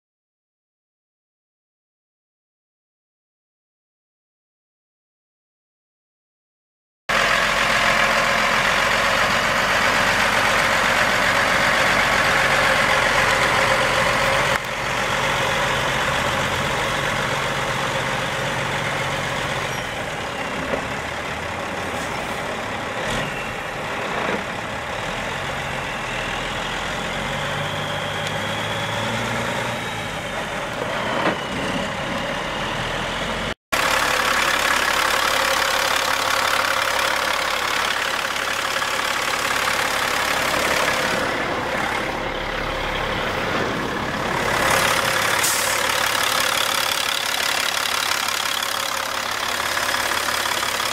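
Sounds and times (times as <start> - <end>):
diesel truck engine idling: 7.1 - 29.0, 31.8 - 50.9.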